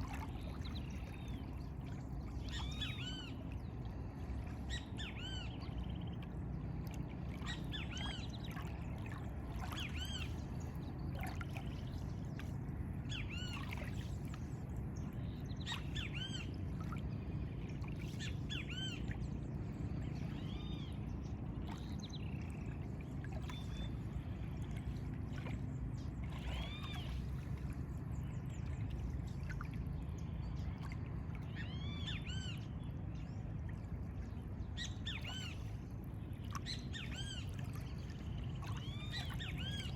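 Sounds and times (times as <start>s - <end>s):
low rumble of ambience: 0.0s - 39.9s.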